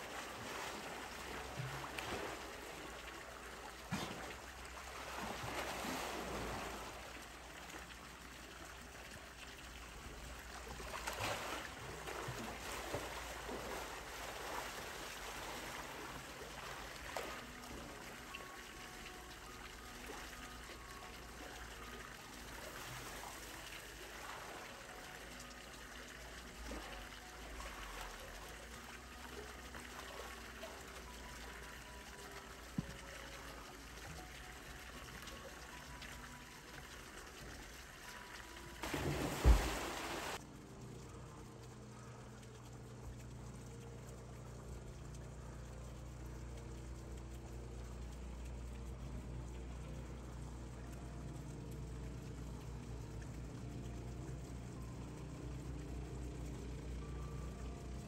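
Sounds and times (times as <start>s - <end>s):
pool water splashing: 0.0s - 58.0s.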